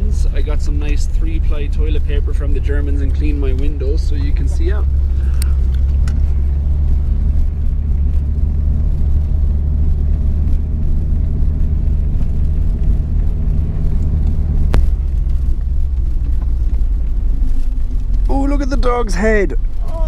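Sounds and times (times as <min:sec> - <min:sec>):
faint steady whine: 0:00.0 - 0:20.0
van engine rumble: 0:00.0 - 0:20.0.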